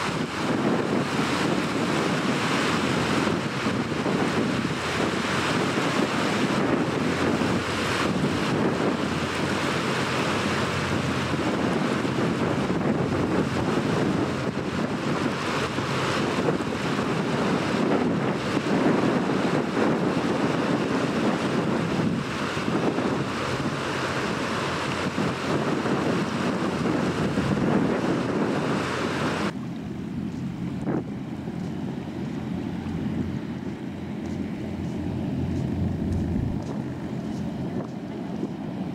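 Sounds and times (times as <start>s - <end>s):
low ferry engine drone: 0.0s - 38.9s
shore ambience: 0.0s - 38.9s
water washing: 0.0s - 38.9s
wind buffeting microphone: 0.0s - 38.9s.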